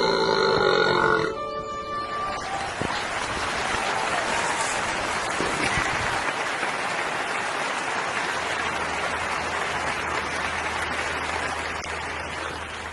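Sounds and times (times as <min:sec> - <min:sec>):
crowd applauding: 0:01.8 - 0:12.9.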